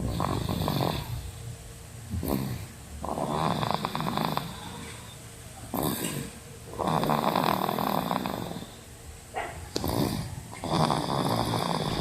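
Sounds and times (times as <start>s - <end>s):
toddler snoring: 0.0s - 1.4s, 2.1s - 5.1s, 5.7s - 8.9s, 9.7s - 12.0s.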